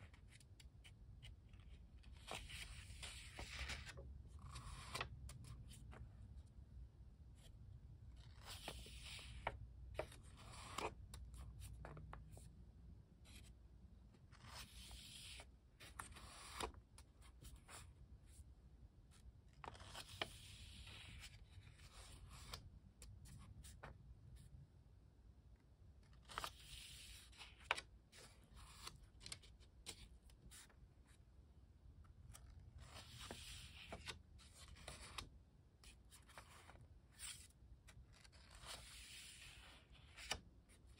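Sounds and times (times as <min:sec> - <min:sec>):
sketchbook pages turning: 0:00.0 - 0:06.5, 0:07.4 - 0:12.4, 0:14.2 - 0:18.0, 0:19.2 - 0:24.3, 0:26.0 - 0:30.9, 0:32.0 - 0:40.9.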